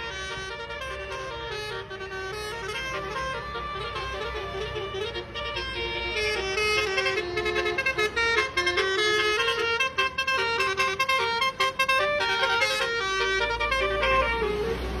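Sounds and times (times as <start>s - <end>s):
bus horn playing a rapid tune: 0.0s - 15.0s.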